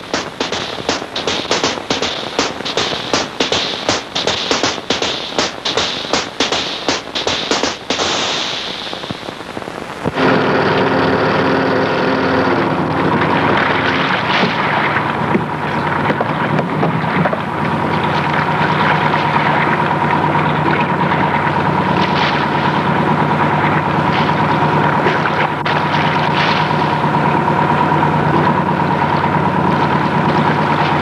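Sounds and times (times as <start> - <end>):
boat engine running: 0.0 - 9.5, 10.1 - 31.0
high-pitched whine: 0.0 - 31.0.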